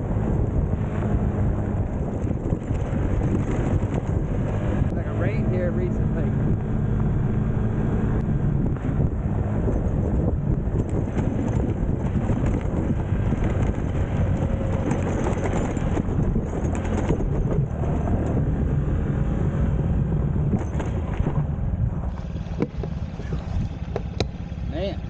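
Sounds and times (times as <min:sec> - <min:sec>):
motorbike engine running: 0:00.0 - 0:25.0.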